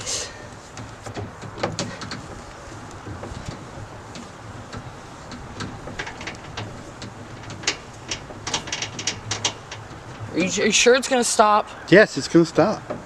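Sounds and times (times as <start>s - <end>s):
cable winch clicking and knocking: 0.0s - 13.0s.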